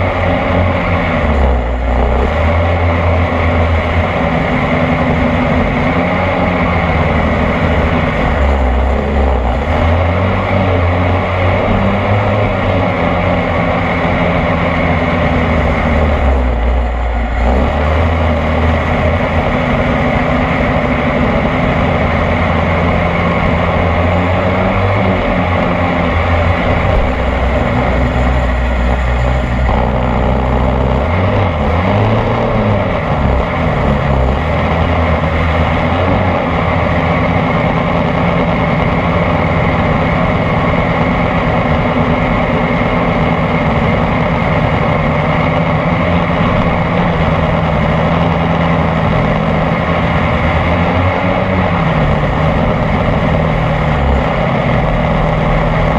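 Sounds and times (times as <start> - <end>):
model boat engine running hard: 0.0 - 55.9.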